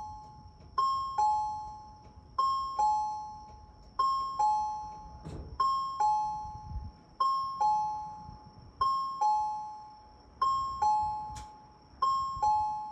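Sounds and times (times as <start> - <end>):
two-tone ding-dong chime: 0.0 - 12.9.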